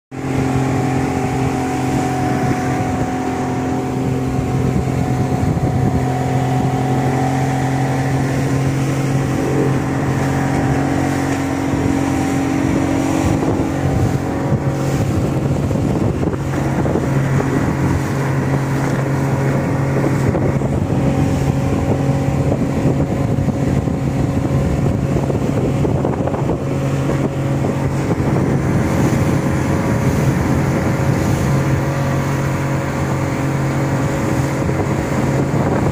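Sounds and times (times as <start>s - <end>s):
motorboat engine drone: 0.1s - 35.9s
water rushing along hull: 0.1s - 35.9s.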